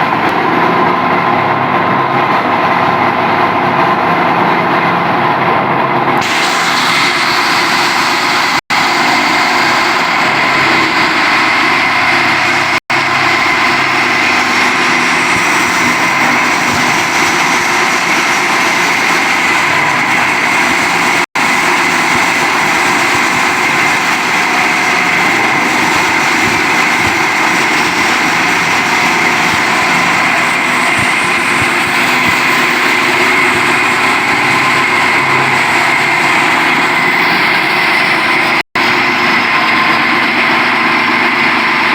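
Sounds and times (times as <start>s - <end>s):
plastic granulator running: 0.0s - 41.9s.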